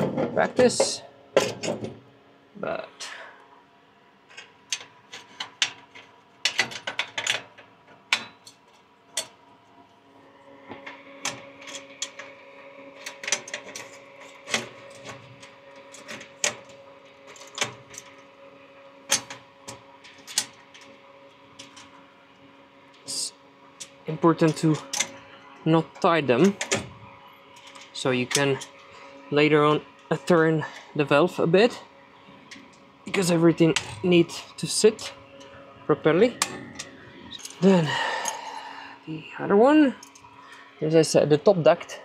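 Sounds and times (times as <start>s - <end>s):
faint hum: 0.0s - 42.0s.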